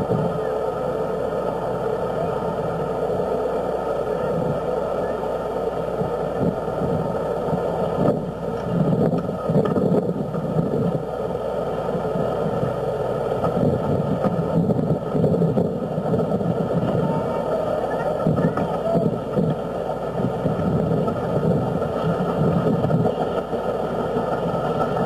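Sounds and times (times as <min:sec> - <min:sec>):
steam locomotive rushing: 0:00.0 - 0:25.0.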